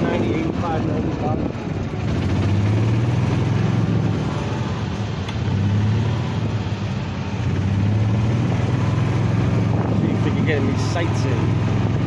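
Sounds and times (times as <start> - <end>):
road noise: 0.0 - 12.0
vehicle engine running: 0.0 - 12.0
wind: 0.0 - 12.0.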